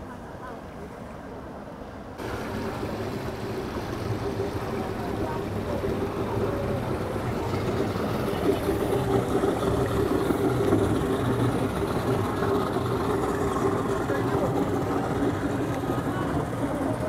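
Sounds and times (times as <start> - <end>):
boat engine droning: 1.9 - 17.0.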